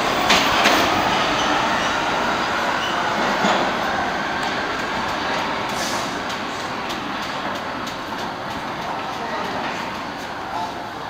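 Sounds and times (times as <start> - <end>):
subway train on rails: 0.0 - 11.0.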